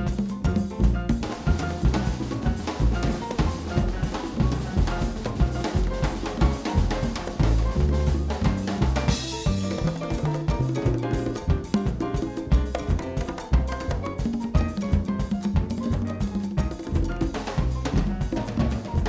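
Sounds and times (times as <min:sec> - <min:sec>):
drum kit strokes: 0:00.0 - 0:19.0
latin jazz band playing: 0:00.0 - 0:19.0.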